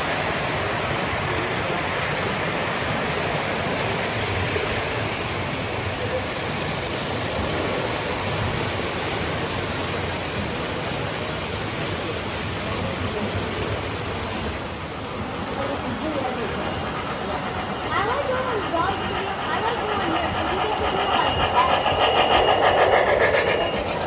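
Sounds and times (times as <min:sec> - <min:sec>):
model trains rumbling on track: 0:00.0 - 0:24.0.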